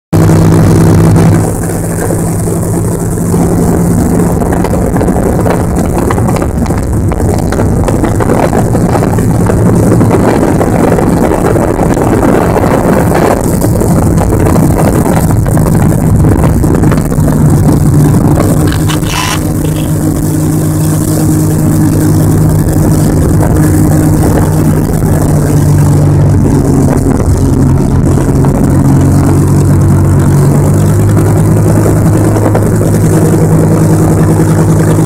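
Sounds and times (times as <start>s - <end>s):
motorboat engine running: 0.2s - 35.0s
wind noise: 0.2s - 35.0s.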